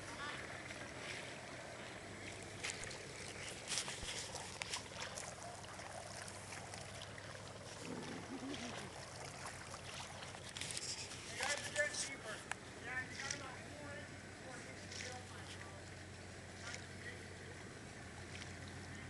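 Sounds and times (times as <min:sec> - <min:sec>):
floodwater sloshing and trickling: 0:00.0 - 0:19.0.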